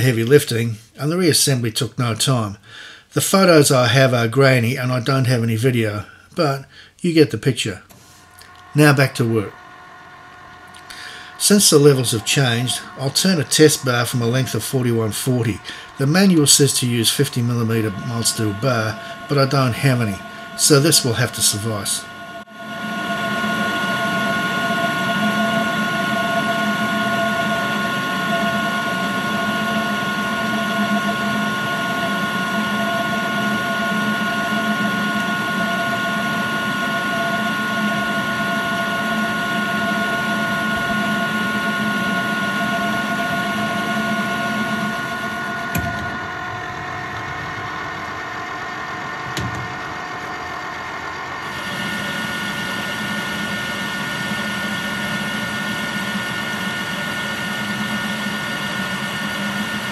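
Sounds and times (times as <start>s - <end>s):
lathe whining: 7.6s - 59.9s.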